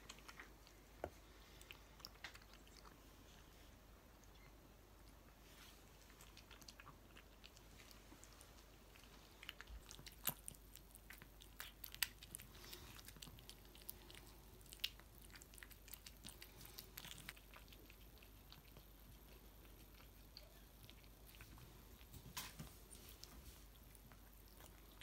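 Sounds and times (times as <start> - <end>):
cat chewing food: 0.0 - 25.0.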